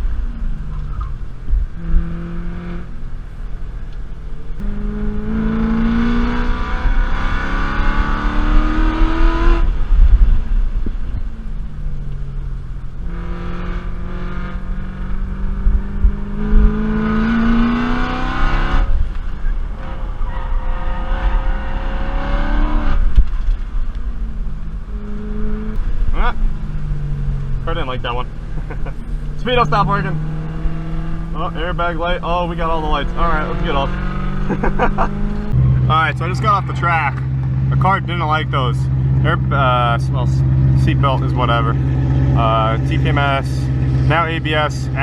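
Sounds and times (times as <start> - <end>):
car engine accelerating hard: 0.0 - 45.0.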